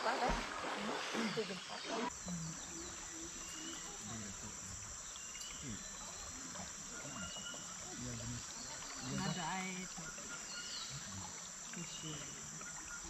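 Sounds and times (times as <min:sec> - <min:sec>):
high-pitched insect chorus: 0:00.7 - 0:13.0
short insect chirps: 0:02.1 - 0:13.0.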